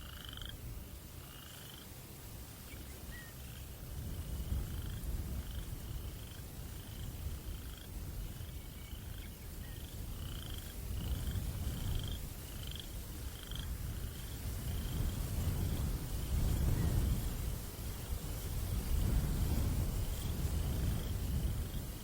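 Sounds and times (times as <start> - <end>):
low wind rumble: 0.0 - 22.0.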